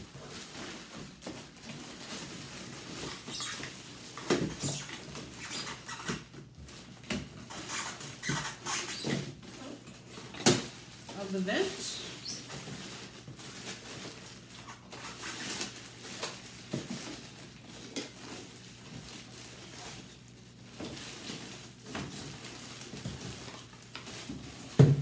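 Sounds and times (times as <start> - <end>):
plastic wrapping crinkling: 0.0 - 25.0.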